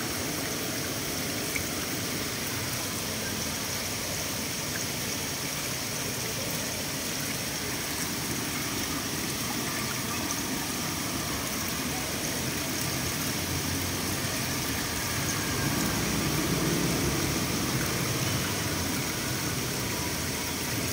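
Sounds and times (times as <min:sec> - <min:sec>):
fountain water splashing: 0:00.0 - 0:20.9.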